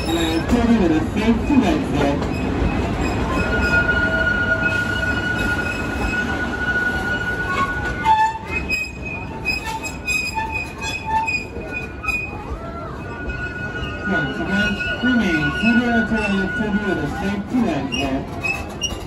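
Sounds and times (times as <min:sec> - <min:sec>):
train cars rumbling on track: 0:00.0 - 0:19.0
wheels squealing on rails: 0:00.0 - 0:19.0.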